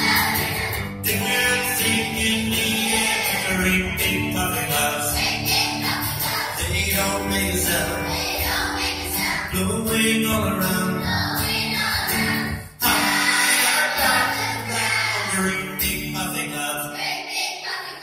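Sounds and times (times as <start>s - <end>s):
children's choir singing: 0.0s - 9.7s, 10.6s - 18.0s.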